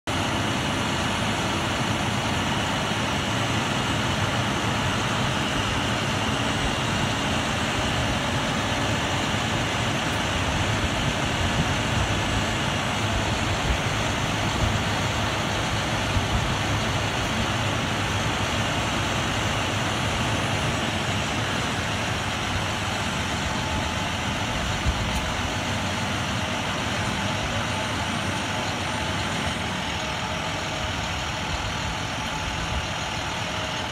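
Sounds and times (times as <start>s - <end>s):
truck engine running: 0.0s - 33.9s.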